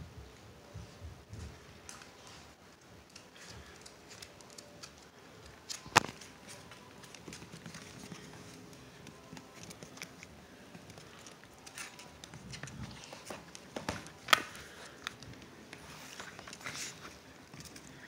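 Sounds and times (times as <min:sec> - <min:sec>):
dog claws clicking on tile floor: 0:01.8 - 0:18.0.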